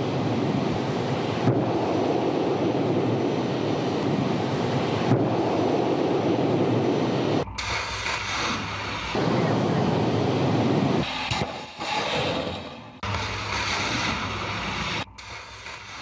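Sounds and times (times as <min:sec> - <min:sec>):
missile launch roar: 0:00.0 - 0:15.0
wind on microphone: 0:00.0 - 0:15.1.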